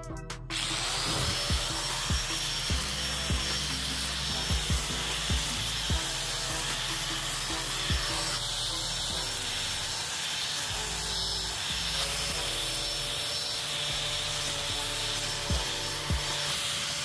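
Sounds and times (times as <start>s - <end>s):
background music with a beat: 0.0s - 12.8s, 13.9s - 16.5s
angle grinder cutting grass: 0.5s - 17.0s.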